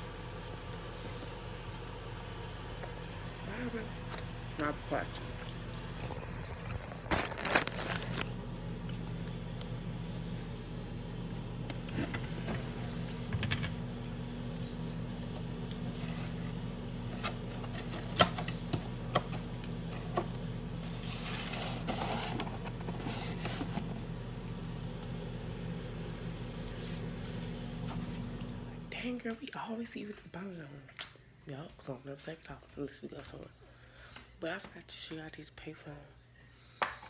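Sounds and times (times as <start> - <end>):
microwave oven humming: 0.0 - 31.9.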